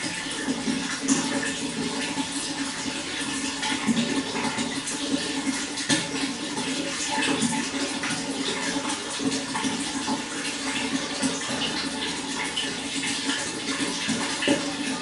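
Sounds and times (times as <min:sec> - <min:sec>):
running water gurgling: 0:00.0 - 0:15.0.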